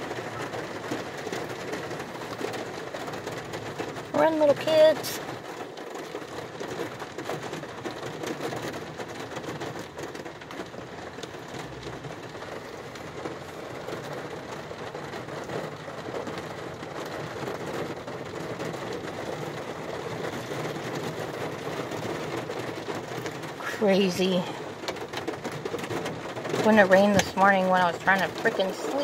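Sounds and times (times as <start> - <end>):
heavy rain on car roof: 0.0 - 29.0.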